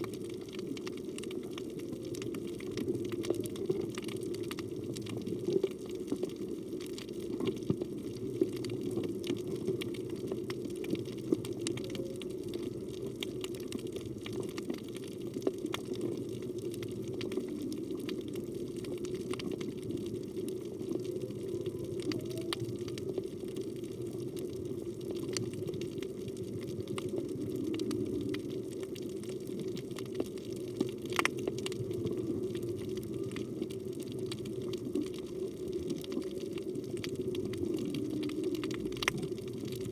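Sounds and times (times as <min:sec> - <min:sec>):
sharp clicks and crackles: 0:00.0 - 0:39.9
underwater rush of moving water: 0:00.0 - 0:39.9.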